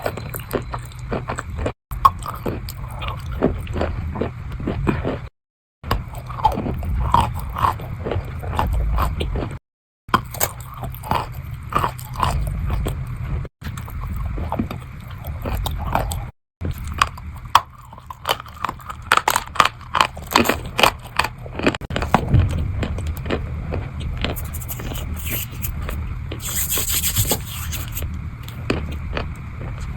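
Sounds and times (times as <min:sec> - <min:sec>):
chewing chalk crunches: 0:00.0 - 0:05.3, 0:05.9 - 0:13.0, 0:13.6 - 0:29.9
low steady hum: 0:05.9 - 0:29.9.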